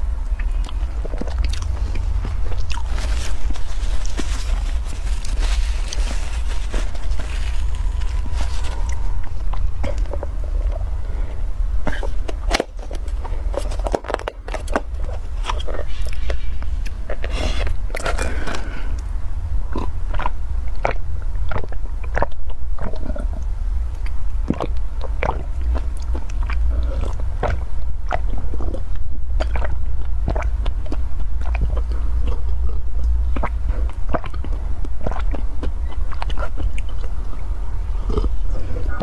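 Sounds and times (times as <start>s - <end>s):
low hum: 0.0s - 39.0s
gulps and swallows: 0.3s - 19.1s, 19.7s - 39.0s.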